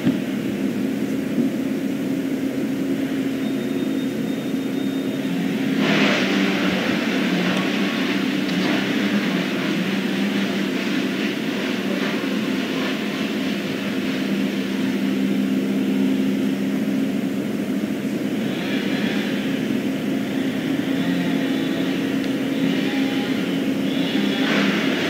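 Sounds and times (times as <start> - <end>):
low engine-like drone: 0.0 - 25.0.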